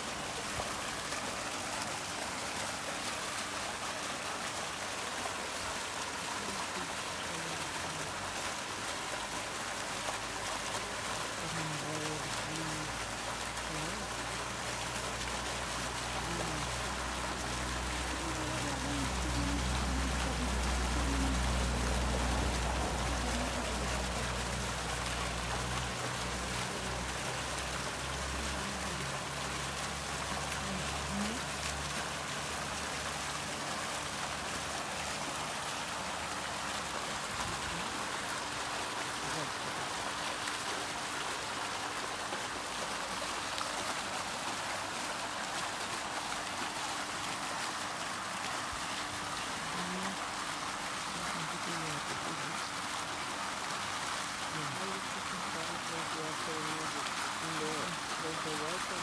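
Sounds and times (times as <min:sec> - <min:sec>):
fountain splashing into pool: 0:00.0 - 0:59.0.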